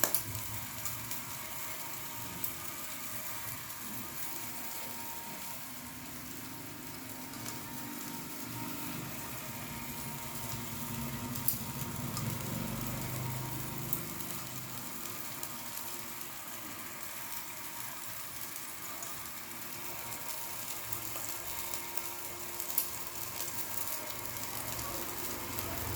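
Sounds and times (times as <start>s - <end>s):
chicken sizzling on a grill: 0.0s - 25.9s.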